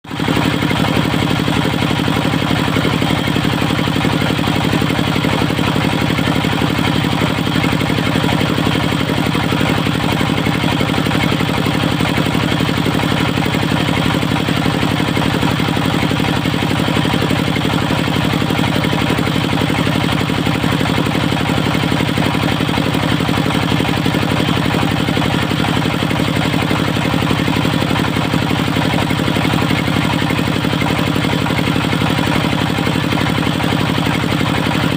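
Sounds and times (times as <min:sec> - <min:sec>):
sawmill engine running: 0:00.1 - 0:34.9.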